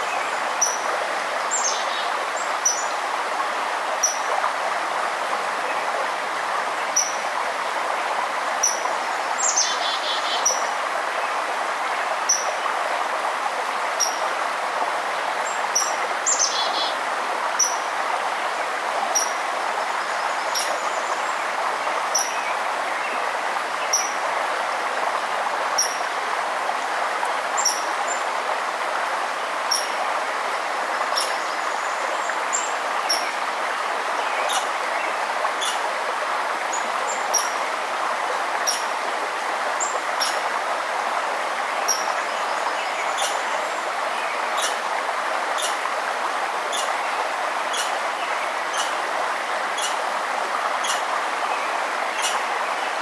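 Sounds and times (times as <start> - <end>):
forest stream rushing: 0.0 - 53.0.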